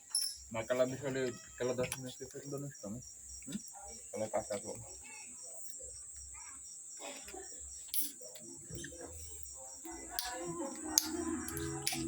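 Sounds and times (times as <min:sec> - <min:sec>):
crickets chirping: 0:00.0 - 0:12.0
faint distant voices: 0:00.0 - 0:12.0.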